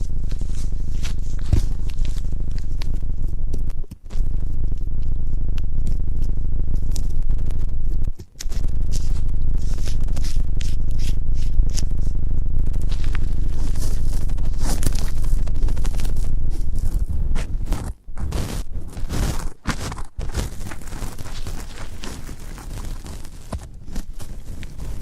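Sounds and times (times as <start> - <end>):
close-up scraping and crackling: 0.0 - 25.0
low rumble of handling noise: 0.0 - 25.0.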